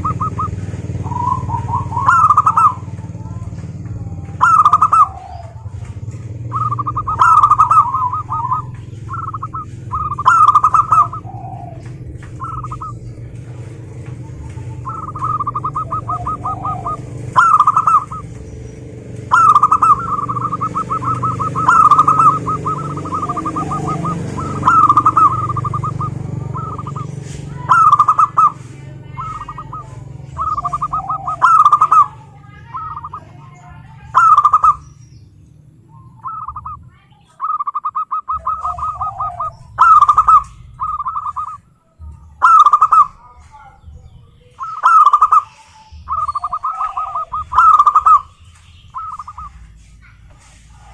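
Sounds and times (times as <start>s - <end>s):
doves cooing: 0.0s - 50.9s
steady low hum: 0.0s - 50.9s.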